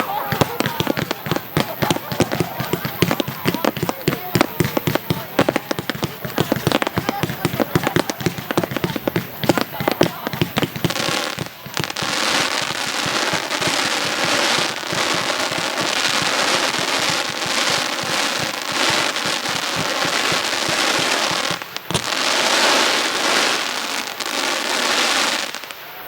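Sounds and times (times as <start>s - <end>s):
fireworks popping and crackling: 0.0s - 26.0s.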